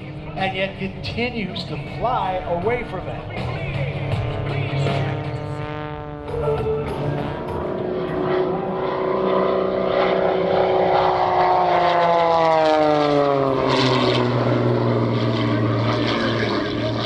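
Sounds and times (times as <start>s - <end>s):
propeller plane engine running hard: 0.0s - 17.0s.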